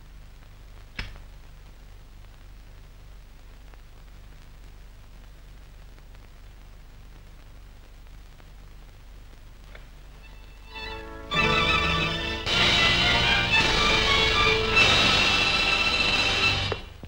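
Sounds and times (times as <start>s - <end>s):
film soundtrack hum and hiss: 0.0s - 17.0s.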